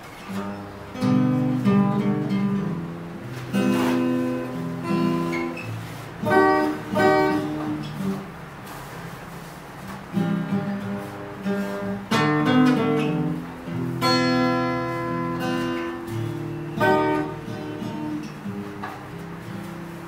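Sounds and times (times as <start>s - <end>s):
acoustic guitar slow chords: 0.0s - 20.0s.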